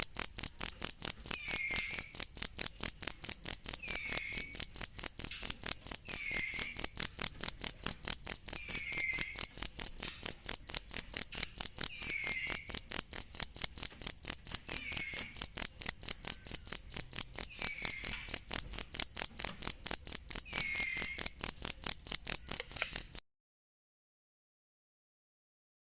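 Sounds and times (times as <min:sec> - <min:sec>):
cricket pulsed trill: 0:00.0 - 0:23.2.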